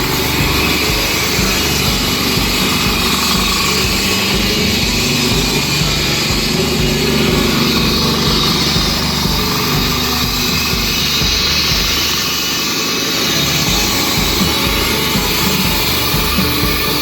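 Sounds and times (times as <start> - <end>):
concrete saw engine drone: 0.0 - 17.0
high cutting whine: 0.0 - 17.0.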